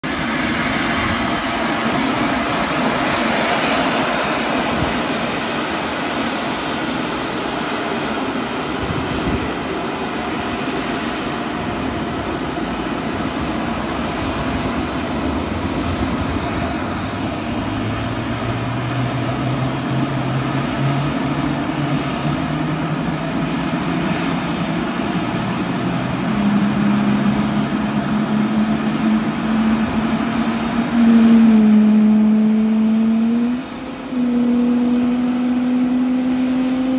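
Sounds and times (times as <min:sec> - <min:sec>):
high engine whine: 0:00.0 - 0:36.9
jet engines rushing: 0:00.0 - 0:36.9
low hum rising in pitch: 0:00.0 - 0:36.9.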